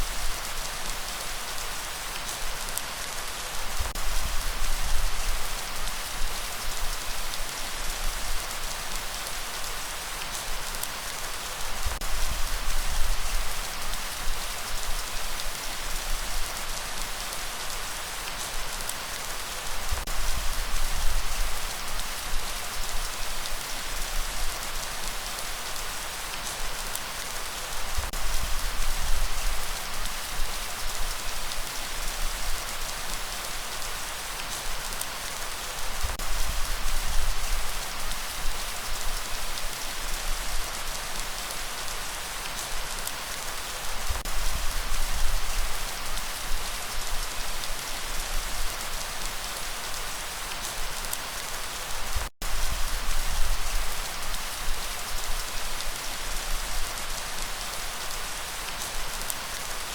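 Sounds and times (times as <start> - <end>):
dense rainfall hissing: 0.0 - 59.9.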